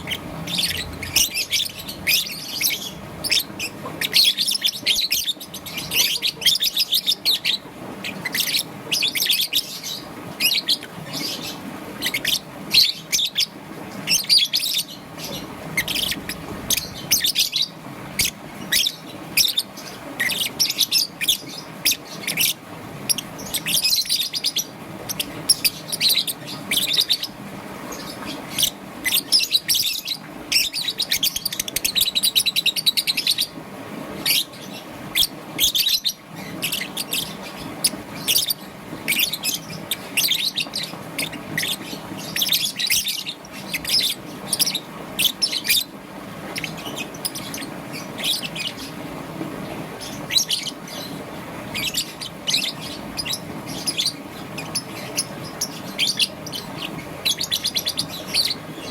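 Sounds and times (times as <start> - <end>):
lovebird chirping: 0.0 - 33.6, 34.2 - 45.9, 46.5 - 49.0, 50.0 - 58.9.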